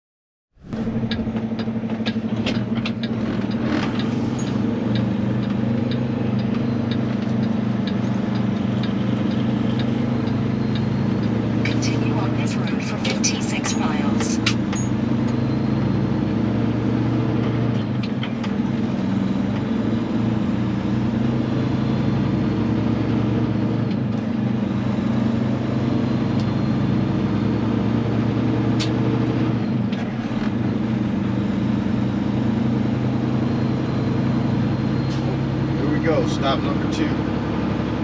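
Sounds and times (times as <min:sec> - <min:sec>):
truck diesel engine running: 0:00.6 - 0:38.0.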